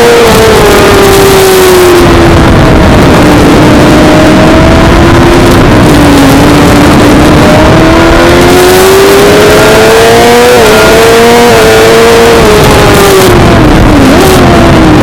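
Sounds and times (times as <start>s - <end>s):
motorcycle engine revving: 0.0s - 15.0s
wind rush: 0.0s - 15.0s.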